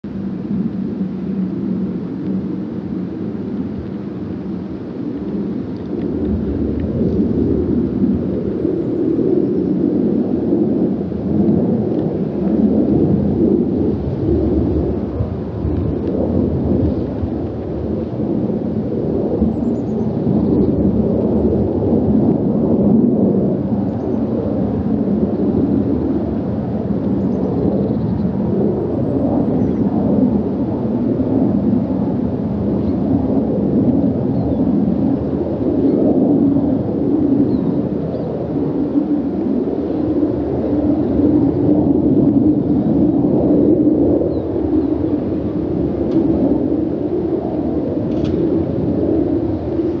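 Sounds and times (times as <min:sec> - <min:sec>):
jet airliner roar overhead: 0:00.0 - 0:50.0.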